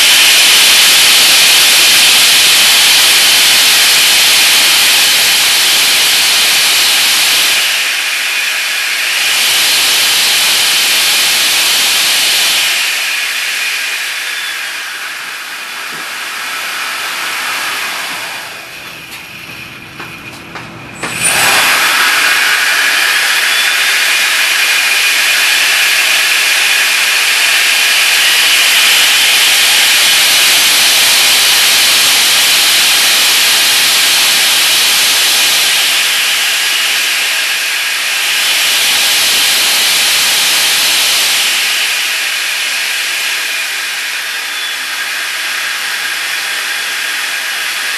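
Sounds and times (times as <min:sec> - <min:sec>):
electric ducted fan whine: 0:00.0 - 0:47.9.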